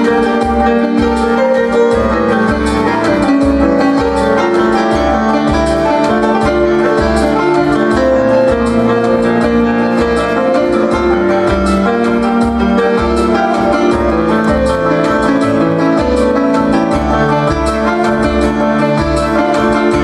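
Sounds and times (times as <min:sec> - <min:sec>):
pulsing bass beat: 0:00.0 - 0:20.0.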